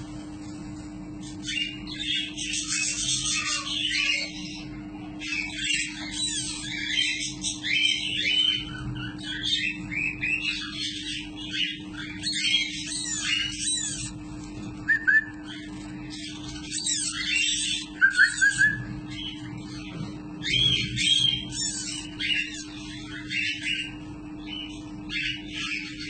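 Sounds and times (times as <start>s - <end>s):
parrot chick chirping: 1.2s - 26.0s.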